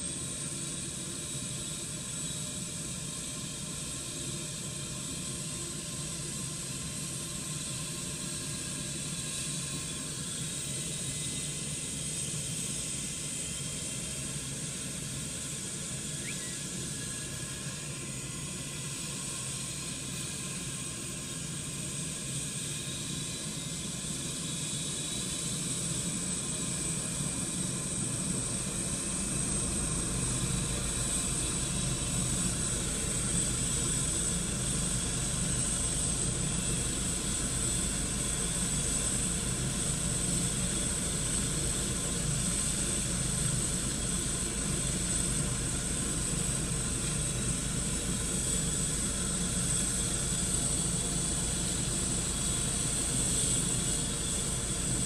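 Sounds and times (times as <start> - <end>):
helicopter turbine whine: 0.0 - 55.0.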